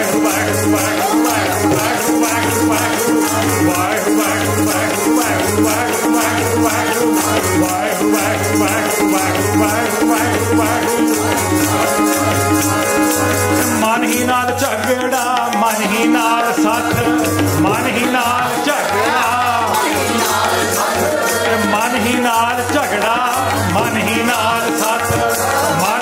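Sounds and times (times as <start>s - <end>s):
jingling rattle percussion: 0.0s - 26.0s
wavering melody: 0.0s - 26.0s.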